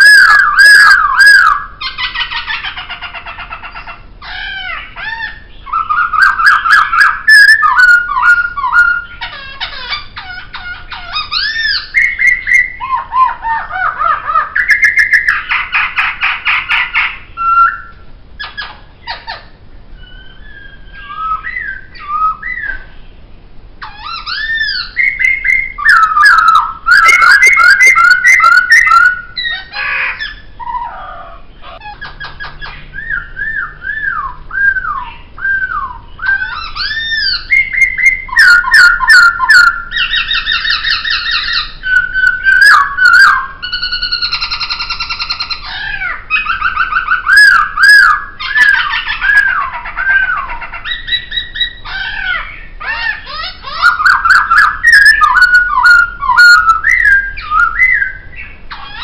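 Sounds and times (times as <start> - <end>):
bird singing varied song: 0.0 - 59.0.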